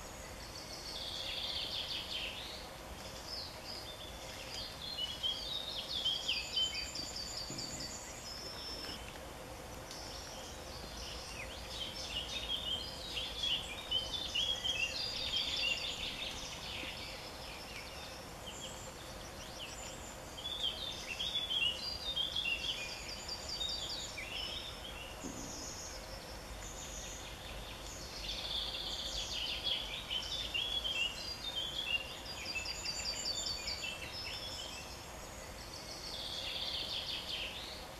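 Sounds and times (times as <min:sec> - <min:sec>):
faint steady hum: 0:00.0 - 0:37.9
songbirds singing: 0:00.0 - 0:37.9.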